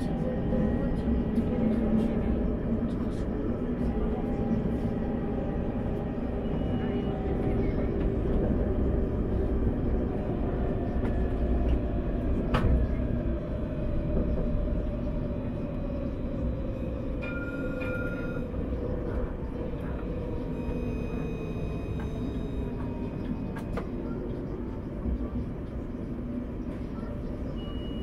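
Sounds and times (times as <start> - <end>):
tram rumble and motor whine: 0.0 - 28.0.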